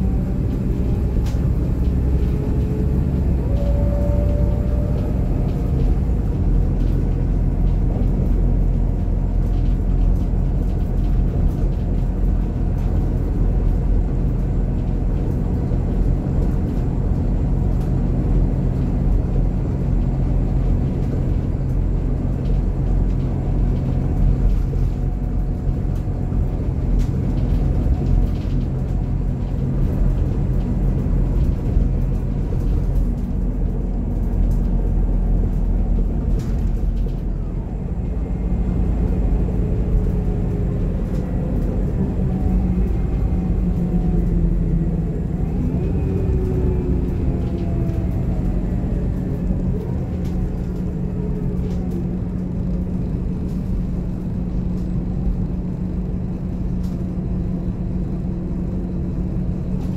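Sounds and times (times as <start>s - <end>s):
diesel coach engine rumble: 0.0s - 59.9s.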